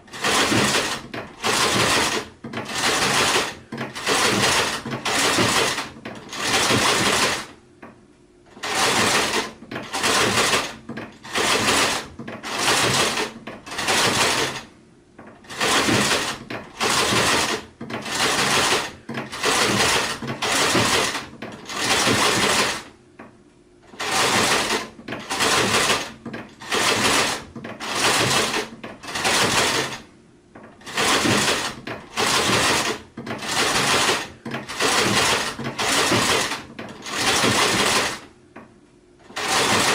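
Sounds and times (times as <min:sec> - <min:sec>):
sewing machine running: 0:00.0 - 0:07.6, 0:08.5 - 0:14.7, 0:15.4 - 0:22.9, 0:23.8 - 0:30.1, 0:30.8 - 0:38.3, 0:39.2 - 0:39.9.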